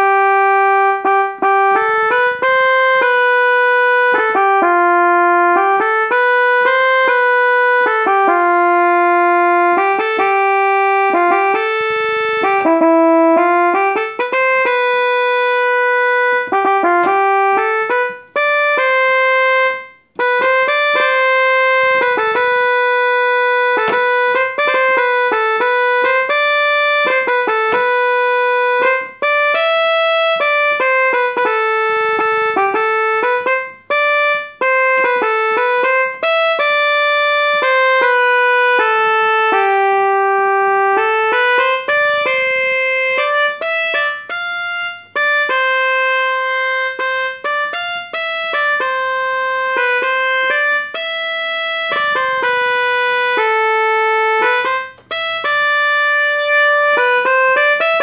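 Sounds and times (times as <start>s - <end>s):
electronic keyboard melody: 0.0s - 58.0s.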